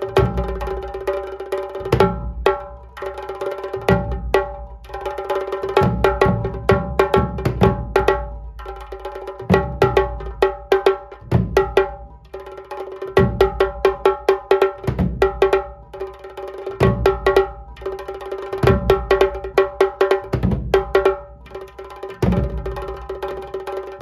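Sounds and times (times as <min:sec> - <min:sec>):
kettle drum rolls: 0:00.0 - 0:12.2, 0:13.0 - 0:15.9, 0:18.6 - 0:24.0
deep drum beats: 0:00.0 - 0:24.0.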